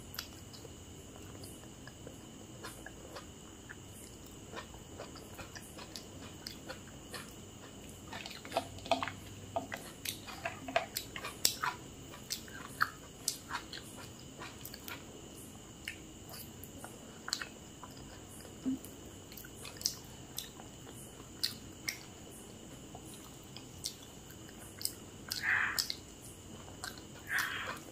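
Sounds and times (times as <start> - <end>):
wet chewing mouth clicks: 0.2 - 15.0, 17.2 - 22.1, 23.1 - 26.0, 26.7 - 27.9.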